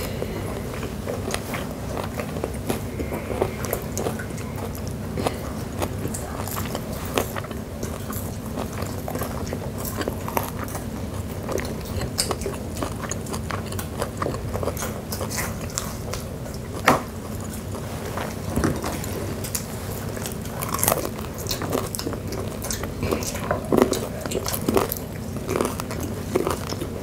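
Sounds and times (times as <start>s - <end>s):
chewing and crunching fried food: 0.0s - 27.0s.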